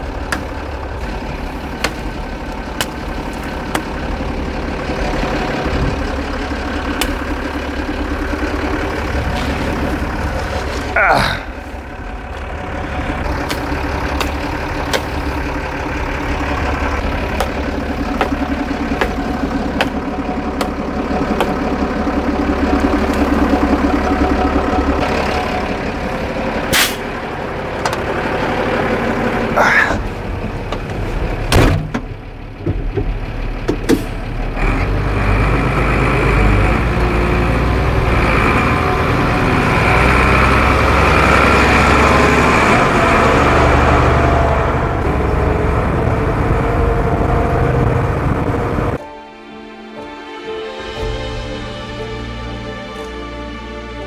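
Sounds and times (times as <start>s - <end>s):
diesel truck engine idling: 0.0s - 49.1s.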